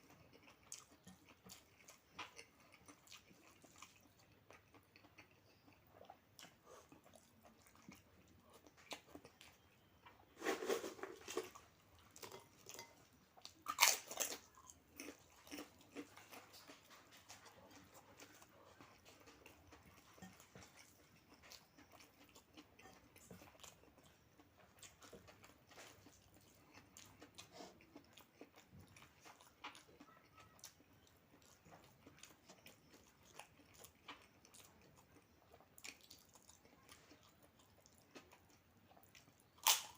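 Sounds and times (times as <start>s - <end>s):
chewing and biting: 0.0s - 39.9s.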